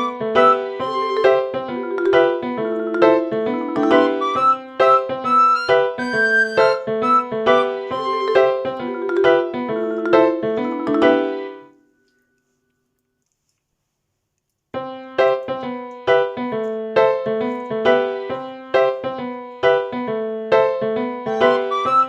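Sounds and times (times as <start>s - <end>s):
piano music: 0.0s - 11.8s, 14.8s - 22.0s.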